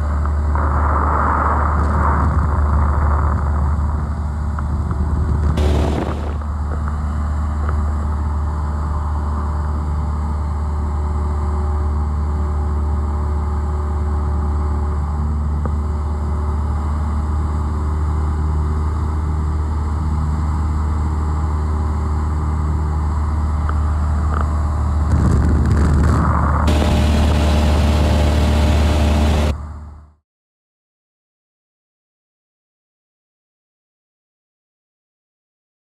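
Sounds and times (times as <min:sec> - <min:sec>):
propeller plane engine drone: 0:00.0 - 0:30.2.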